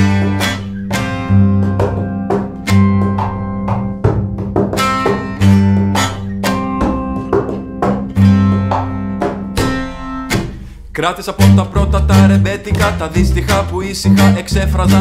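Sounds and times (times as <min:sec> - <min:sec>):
held bass notes: 0:00.0 - 0:15.0
plucked string instrument: 0:00.0 - 0:15.0.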